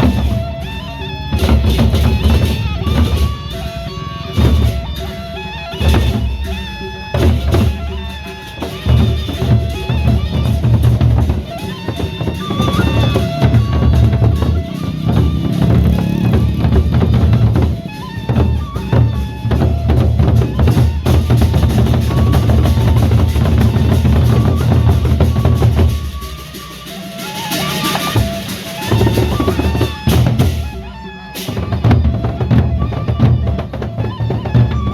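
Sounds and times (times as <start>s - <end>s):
drum rolls: 0.0s - 34.9s
procession music with heavy drumming: 0.0s - 34.9s.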